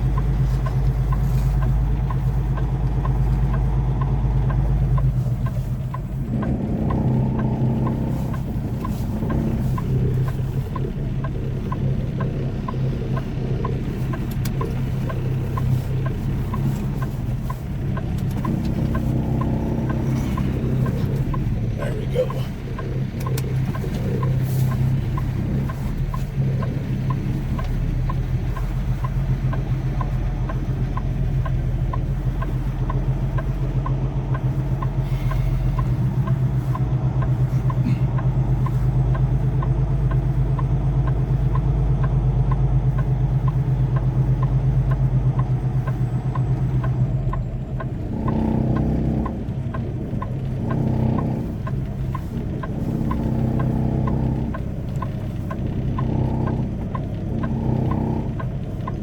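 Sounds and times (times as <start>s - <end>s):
diesel truck engine rumbling: 0.0s - 59.0s
light regular ticking: 0.0s - 59.0s.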